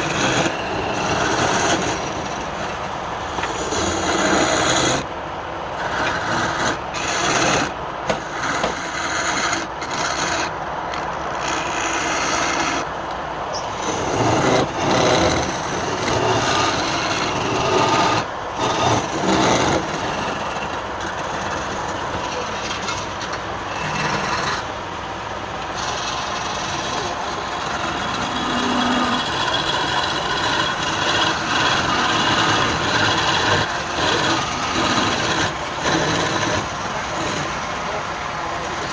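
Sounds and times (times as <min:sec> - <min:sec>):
lathe tool scraping wood: 0:00.0 - 0:05.1, 0:05.8 - 0:12.9, 0:13.6 - 0:24.8, 0:25.6 - 0:38.9.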